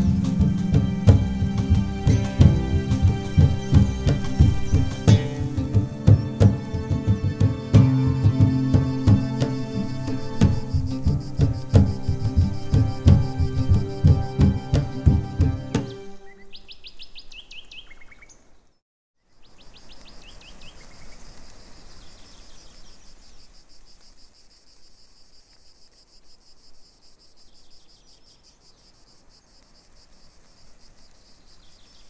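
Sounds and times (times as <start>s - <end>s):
insects chirping: 0.0s - 18.6s, 19.2s - 32.0s
songbird trill: 0.0s - 32.0s.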